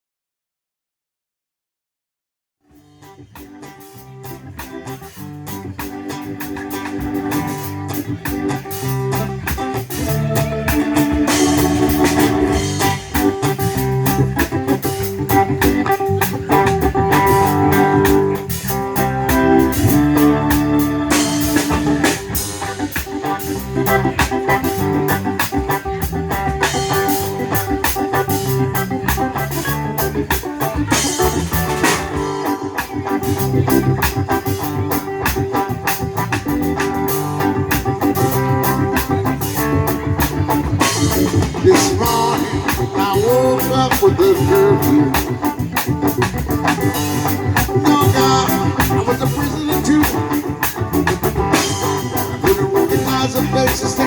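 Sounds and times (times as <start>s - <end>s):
bass: 2.7s - 54.0s
drum kit: 2.7s - 54.0s
guitar: 2.7s - 54.0s
held organ chords: 2.8s - 54.0s.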